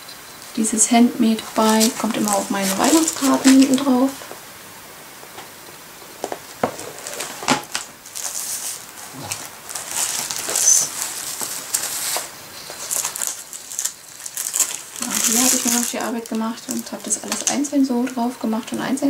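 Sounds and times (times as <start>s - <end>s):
plastic sheet protectors crinkling: 0.5s - 4.5s, 5.2s - 19.0s.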